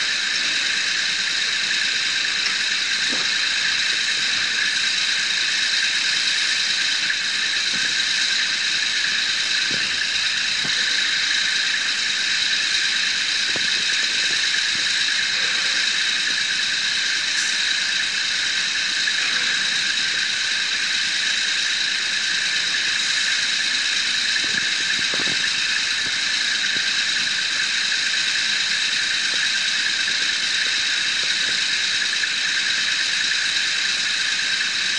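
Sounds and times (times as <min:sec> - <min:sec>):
loud hiss: 0:00.0 - 0:34.9.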